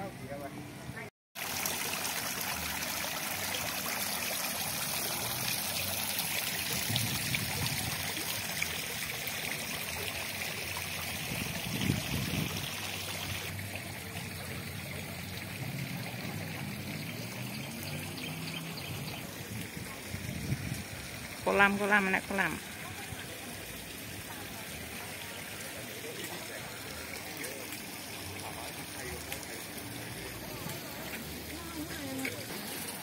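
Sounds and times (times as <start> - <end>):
fountain water splashing into basin: 1.4 - 33.0.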